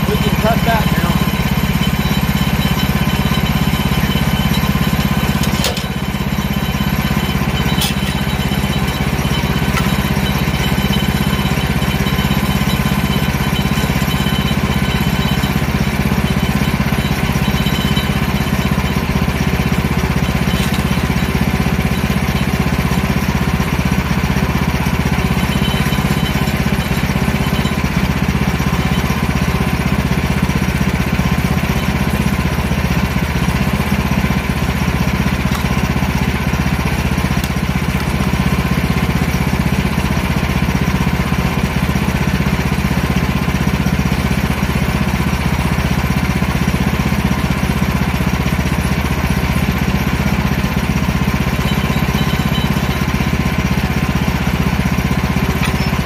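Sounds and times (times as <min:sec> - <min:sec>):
small gasoline engine idling: 0:00.0 - 0:56.0.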